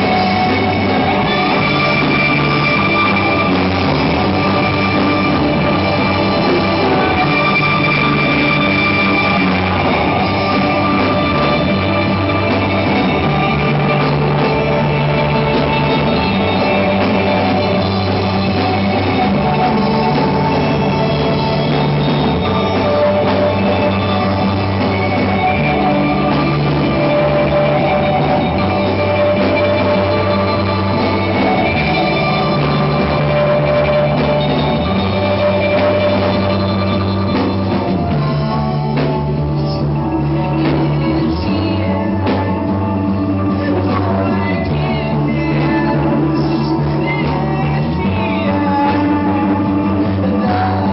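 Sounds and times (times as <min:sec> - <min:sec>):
bass guitar: 0:00.0 - 0:50.9
live rock band instrumental: 0:00.0 - 0:50.9.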